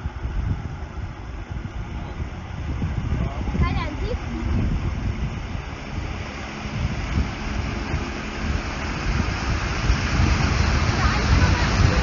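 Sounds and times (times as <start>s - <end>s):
van engine running: 0.0s - 12.0s
water churning: 0.0s - 12.0s
wind buffeting microphone: 0.0s - 12.0s.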